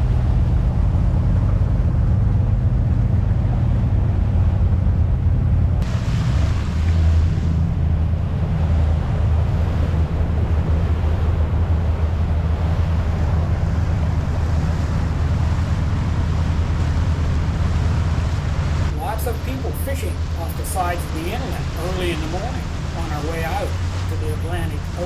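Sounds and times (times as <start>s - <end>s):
diesel engine drone: 0.0s - 25.0s
water noise: 0.0s - 25.0s
wind on microphone: 0.0s - 25.0s.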